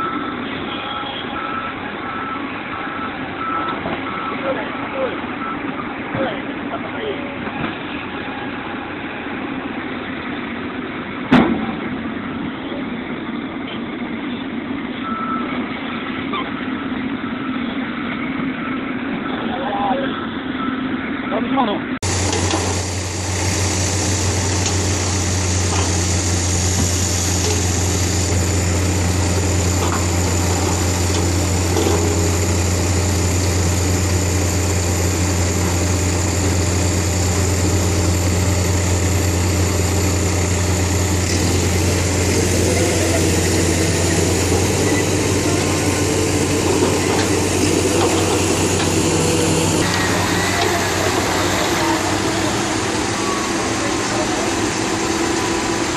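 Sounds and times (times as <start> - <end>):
excavator diesel engines droning: 0.0 - 55.9.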